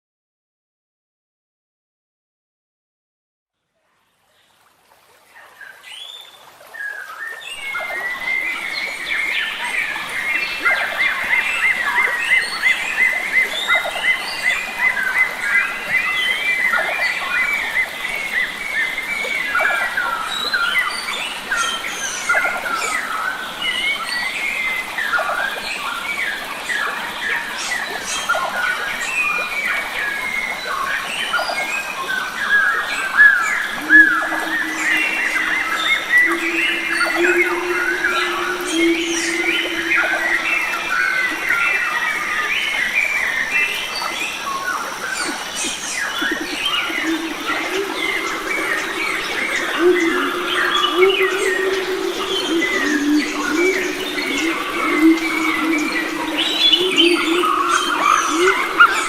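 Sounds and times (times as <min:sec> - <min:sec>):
steady background hiss: 0:04.2 - 0:59.0
birds chirping and trilling: 0:06.8 - 0:59.0.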